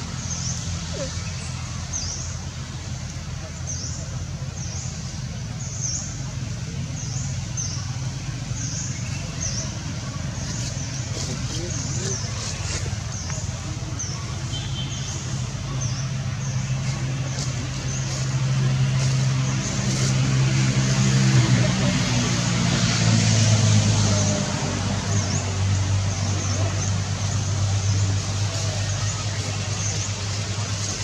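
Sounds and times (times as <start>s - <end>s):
engine running with low hum: 0.0s - 31.0s.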